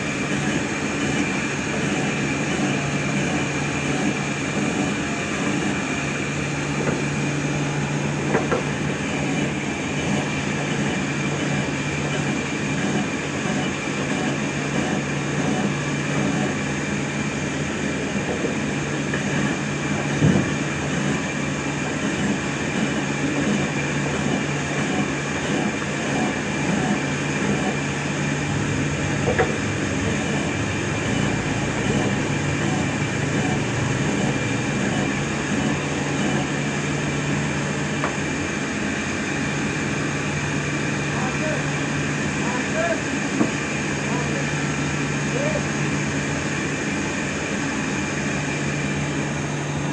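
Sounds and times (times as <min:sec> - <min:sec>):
sawmill machinery rumbling: 0:00.0 - 0:49.9.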